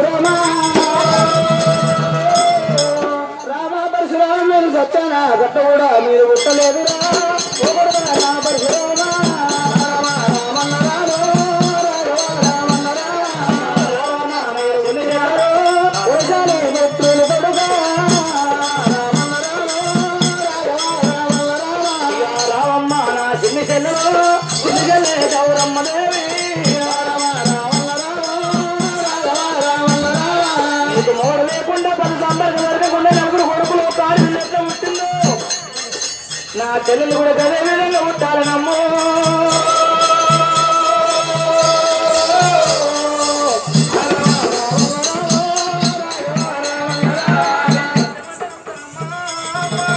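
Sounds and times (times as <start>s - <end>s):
rhythmic percussion: 0.0s - 49.9s
rattling jingle: 6.4s - 49.9s.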